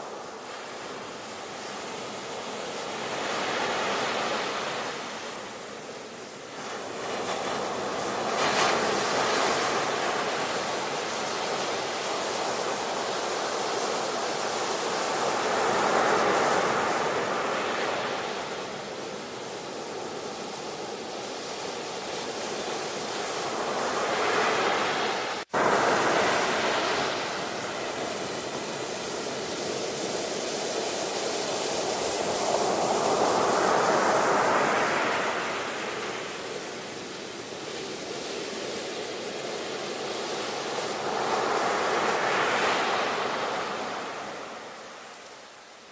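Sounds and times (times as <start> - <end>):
ocean surf waves: 0.0 - 45.9.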